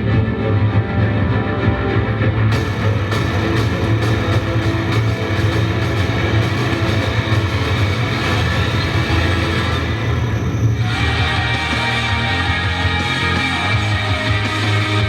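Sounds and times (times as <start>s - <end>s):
rock music with guitar and drums: 0.0s - 15.0s.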